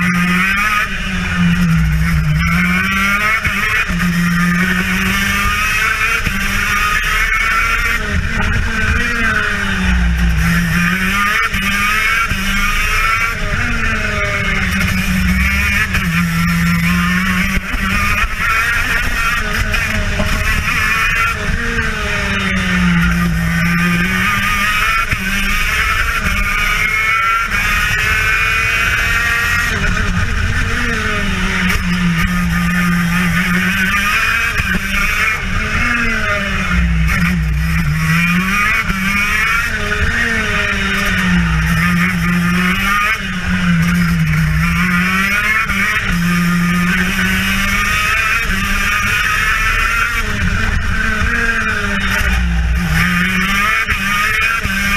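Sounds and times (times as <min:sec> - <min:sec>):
kart engine racing: 0:00.0 - 0:54.9.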